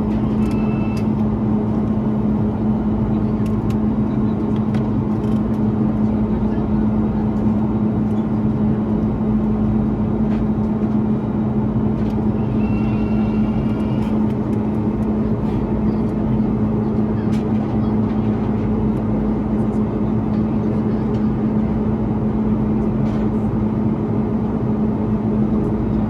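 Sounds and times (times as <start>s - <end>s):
constant low hum: 0.0s - 26.0s
jet engines and airflow rushing: 0.0s - 26.0s.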